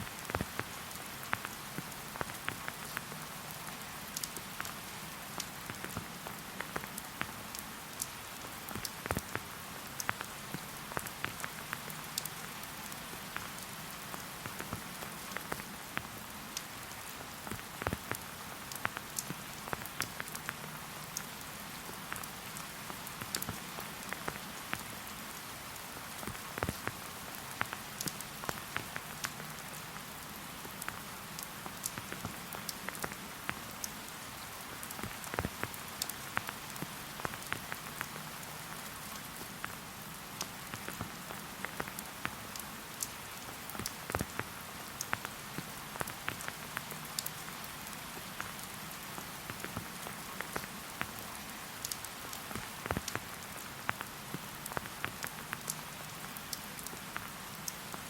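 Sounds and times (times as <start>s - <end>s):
raindrops ticking close by: 0.0s - 58.0s.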